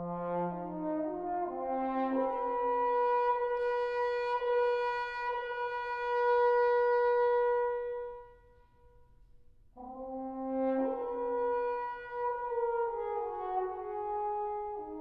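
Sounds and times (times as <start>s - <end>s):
french horn playing: 0.0s - 8.6s, 9.8s - 15.0s.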